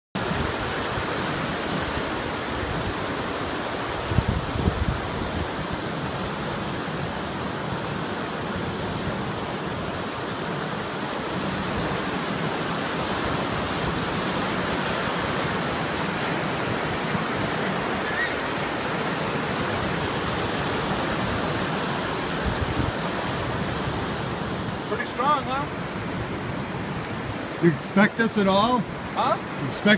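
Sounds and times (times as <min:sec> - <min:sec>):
creek water rushing over rocks: 0:00.2 - 0:29.9.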